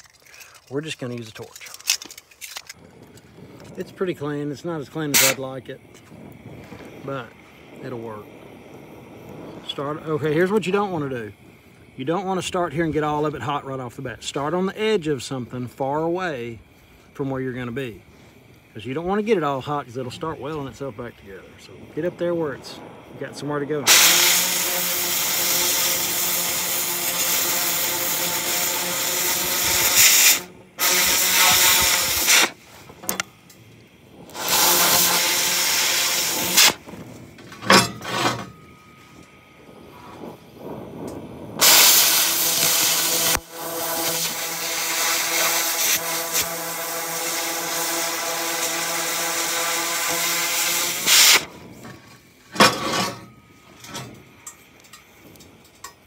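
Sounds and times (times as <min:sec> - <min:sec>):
cutting torch oxygen hissing: 0:00.0 - 0:56.0
torch flame burning: 0:00.0 - 0:56.0.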